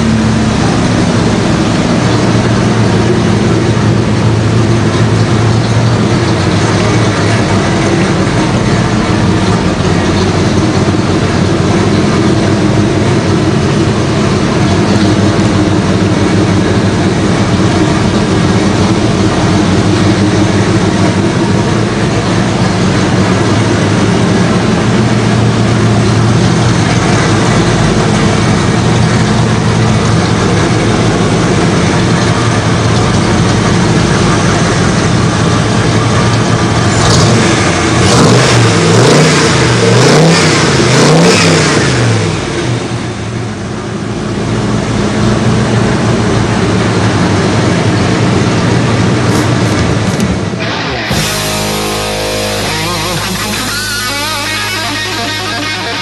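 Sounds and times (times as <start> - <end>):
car exhaust running and revving: 0.0 - 56.0.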